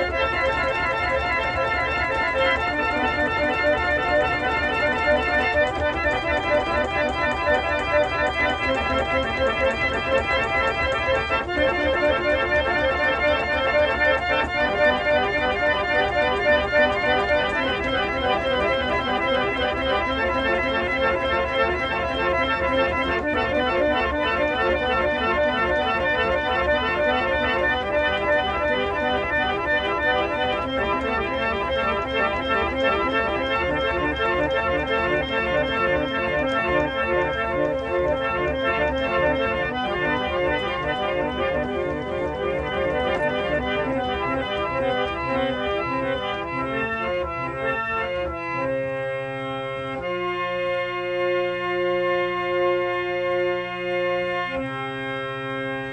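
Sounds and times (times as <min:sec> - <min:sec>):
reed organ playing chords: 0:00.0 - 0:55.9.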